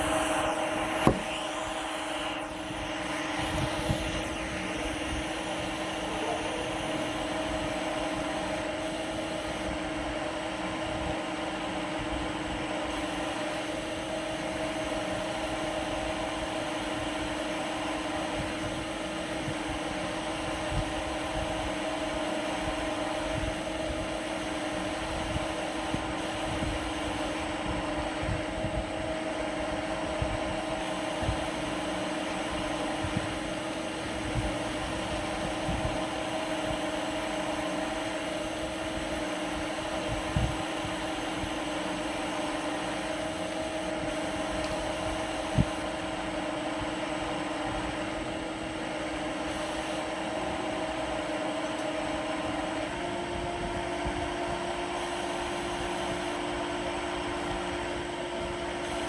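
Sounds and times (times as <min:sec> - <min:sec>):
lathe machine hum: 0:00.0 - 0:59.0.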